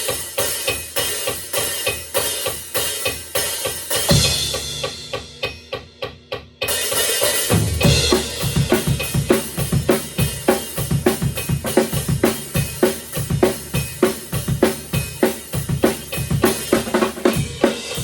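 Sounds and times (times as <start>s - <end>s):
drum kit playing rock beat: 0.0s - 18.0s.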